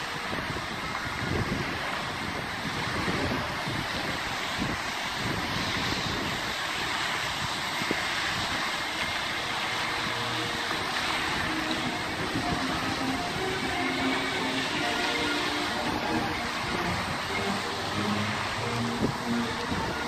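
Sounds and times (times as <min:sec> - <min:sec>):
fountain water jets spraying: 0:00.0 - 0:20.0
wind buffeting microphone: 0:00.0 - 0:20.0.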